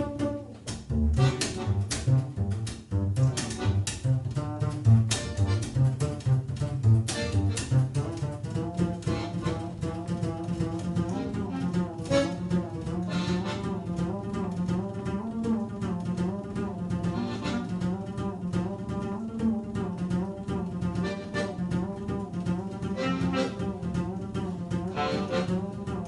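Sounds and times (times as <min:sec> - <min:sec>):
acoustic band playing: 0:00.0 - 0:26.0.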